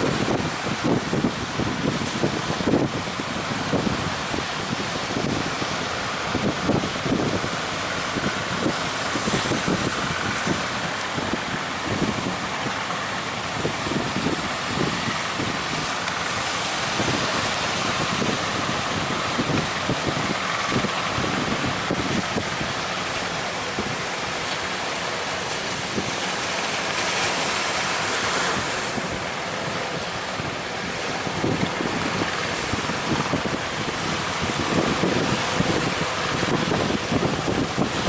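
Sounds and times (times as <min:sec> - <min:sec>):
sea surf breaking: 0:00.0 - 0:38.0
wind buffeting microphone: 0:00.0 - 0:38.0.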